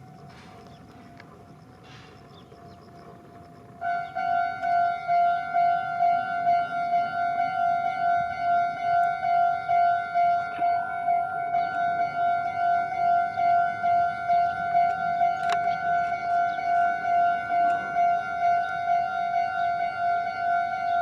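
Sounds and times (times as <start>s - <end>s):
railroad crossing bell ringing: 0.0s - 2.8s, 3.4s - 21.0s.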